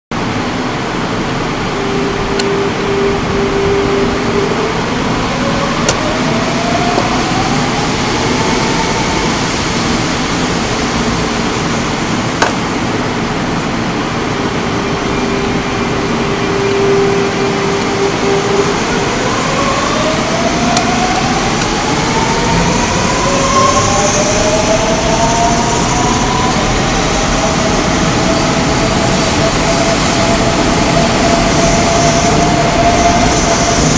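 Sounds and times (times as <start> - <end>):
wheel and rail noise: 0.2 - 33.9
electric train motor tone rising: 1.4 - 33.9.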